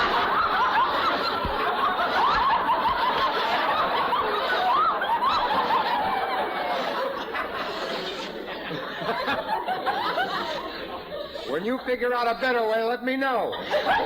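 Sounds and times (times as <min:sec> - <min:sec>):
studio audience laughing: 0:00.0 - 0:14.0.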